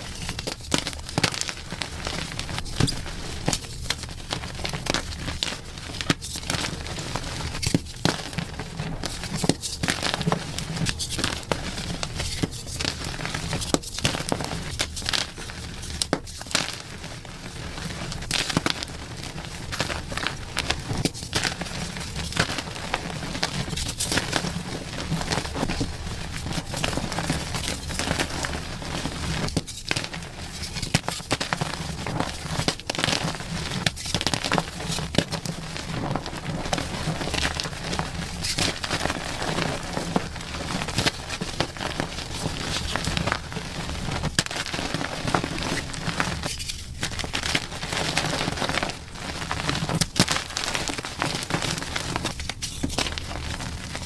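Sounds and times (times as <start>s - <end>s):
chalk crunching and crumbling: 0.0s - 54.0s.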